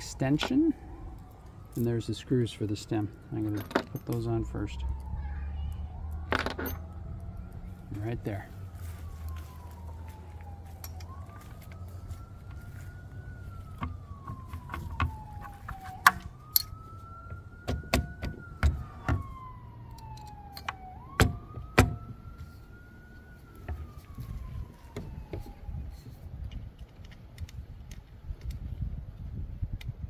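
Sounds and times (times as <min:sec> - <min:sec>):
faint siren wailing: 0:00.0 - 0:29.7.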